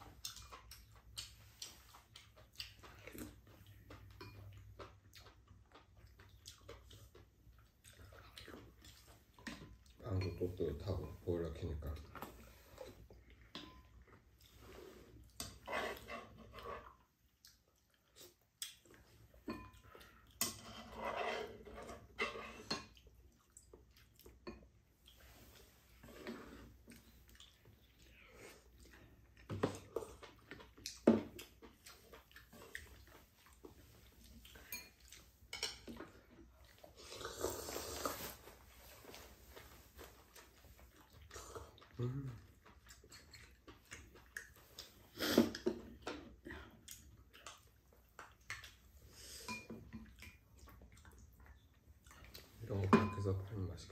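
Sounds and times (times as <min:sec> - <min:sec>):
chewing and mouth noises: 0:00.0 - 0:10.2, 0:11.6 - 0:52.8.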